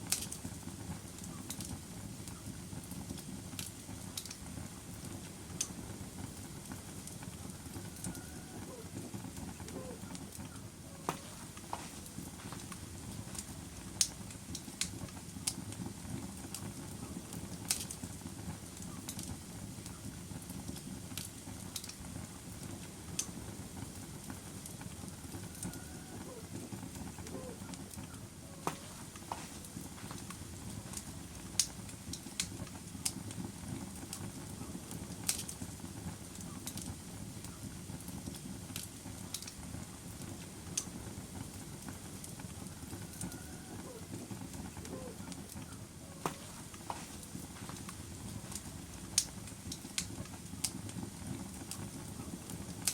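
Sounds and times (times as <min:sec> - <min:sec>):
log fire crackling: 0:00.0 - 0:52.9.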